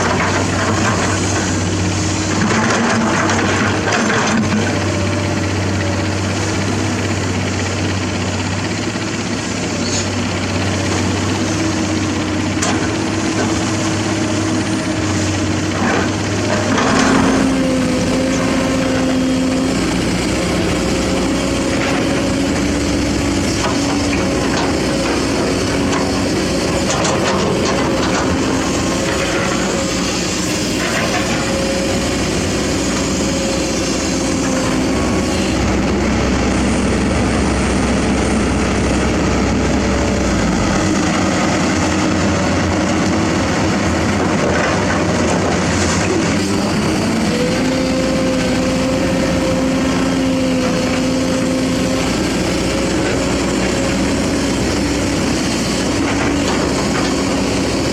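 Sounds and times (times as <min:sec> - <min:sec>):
excavator diesel engines whining: 0:00.0 - 0:57.9.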